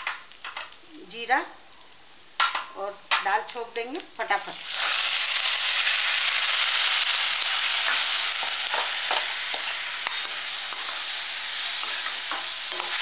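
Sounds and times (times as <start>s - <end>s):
lentils sizzling in hot ghee: 0.0s - 13.0s.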